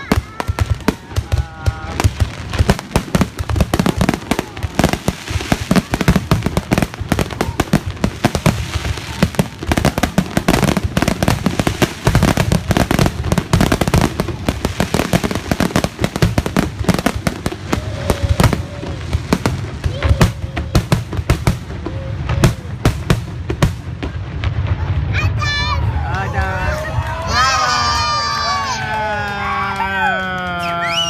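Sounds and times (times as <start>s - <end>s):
deep fireworks booms: 0.0s - 29.0s
fireworks bangs and crackling: 0.0s - 31.0s.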